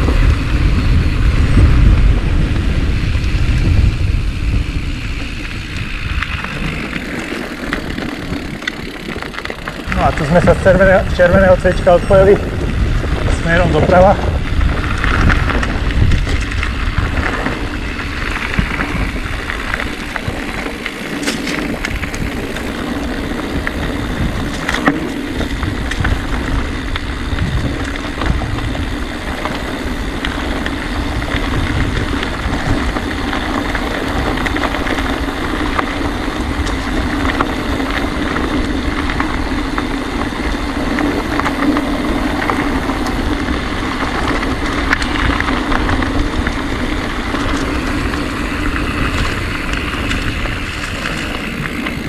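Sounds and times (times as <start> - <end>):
bike rattling clicks: 0.0 - 52.0
bike tyres rumbling on trail: 0.0 - 52.0.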